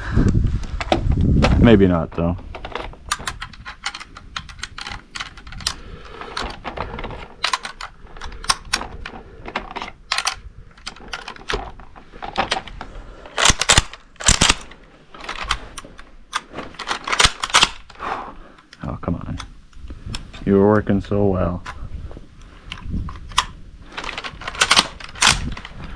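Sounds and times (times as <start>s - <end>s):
rifle and cartridges clinking: 1.6s - 25.9s.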